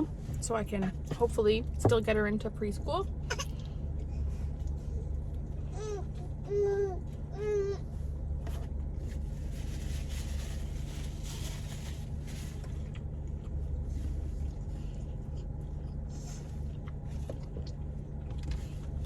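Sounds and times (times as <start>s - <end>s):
car rumble from inside cabin: 0.0s - 19.0s.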